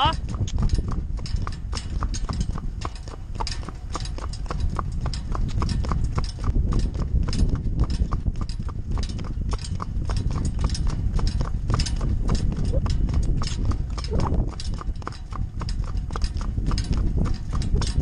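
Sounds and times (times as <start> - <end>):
horse hooves on asphalt: 0.0 - 18.0
wind rumble on microphone: 0.0 - 18.0.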